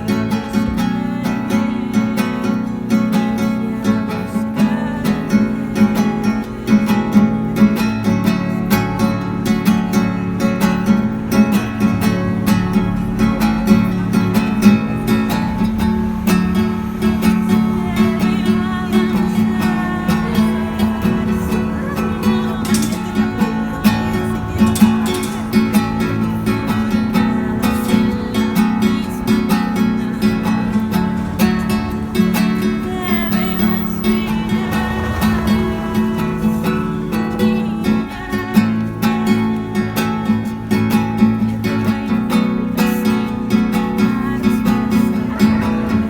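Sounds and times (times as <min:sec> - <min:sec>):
acoustic guitar instrumental: 0:00.0 - 0:46.0.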